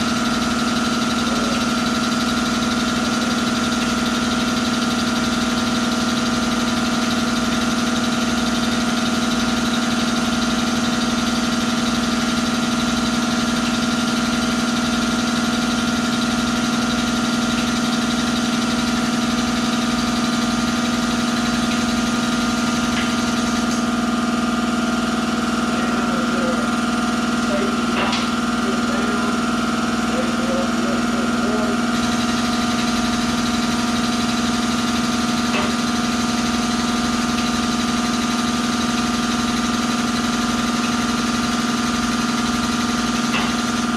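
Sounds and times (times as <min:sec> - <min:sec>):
air-powered lift motor running: 0:00.0 - 0:43.9.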